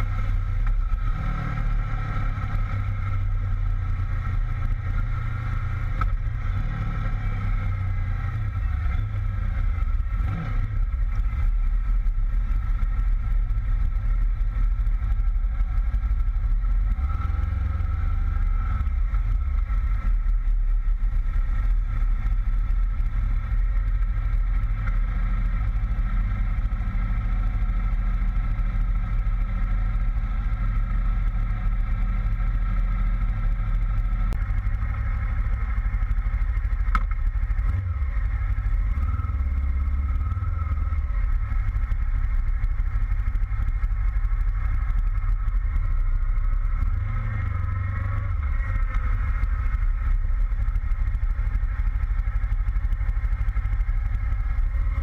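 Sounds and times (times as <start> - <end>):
motorcycle engine rumble: 0.0 - 55.0.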